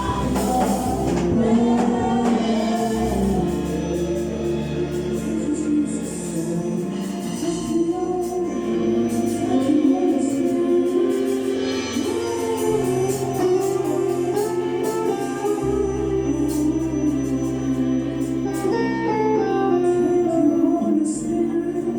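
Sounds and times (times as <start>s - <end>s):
gospel choir singing: 0.0s - 21.9s
held bass line: 0.0s - 21.9s.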